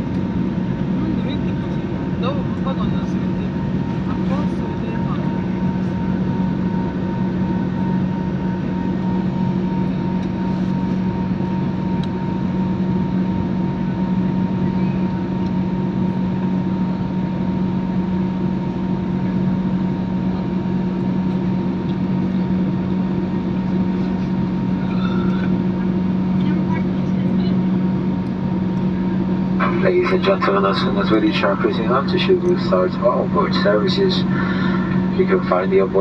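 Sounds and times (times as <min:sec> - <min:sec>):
jet engines droning in cabin: 0:00.0 - 0:36.0.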